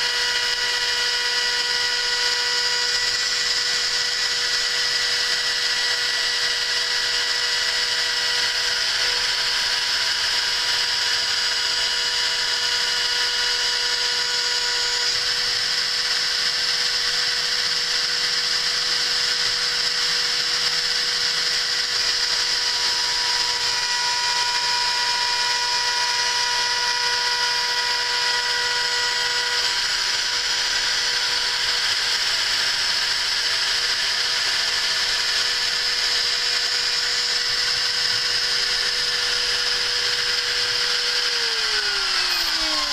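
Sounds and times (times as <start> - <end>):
milling spindle whirring: 0.0 - 42.9.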